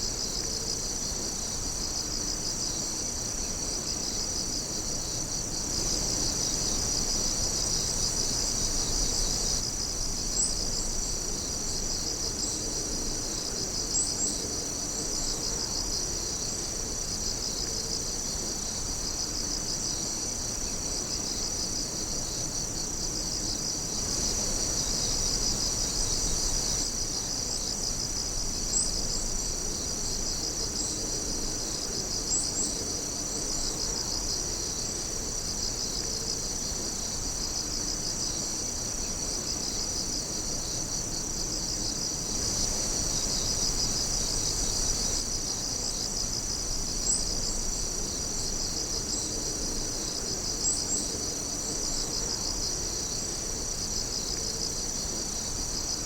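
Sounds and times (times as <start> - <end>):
loud insect chirps: 0.0 - 56.0
night insects trilling: 0.0 - 56.0.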